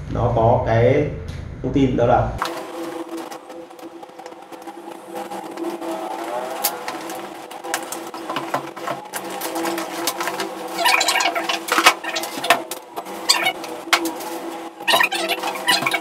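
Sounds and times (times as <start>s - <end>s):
steady low hum: 0.0s - 16.0s
plastic wrap crinkling: 2.4s - 16.0s.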